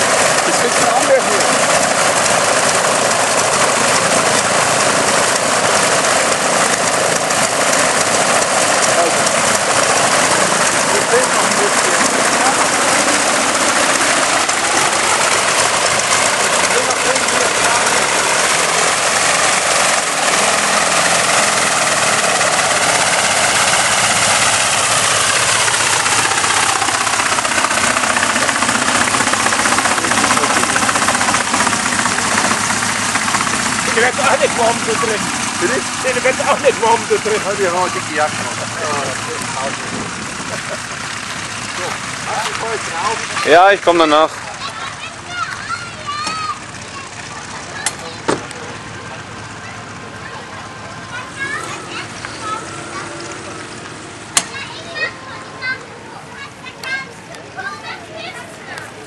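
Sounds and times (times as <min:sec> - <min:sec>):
biplane radial engine running: 0:00.0 - 0:59.0.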